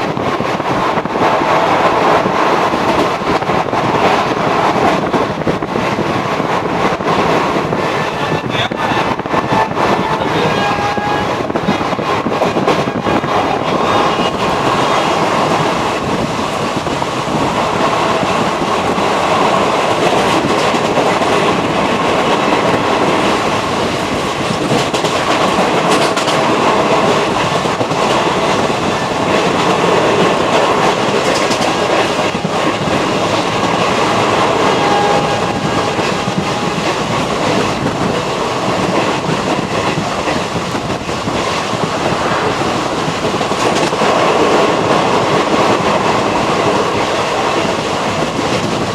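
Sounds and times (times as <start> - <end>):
train rumbling: 0.0 - 48.9
wheels clacking over rail joints: 9.4 - 48.9.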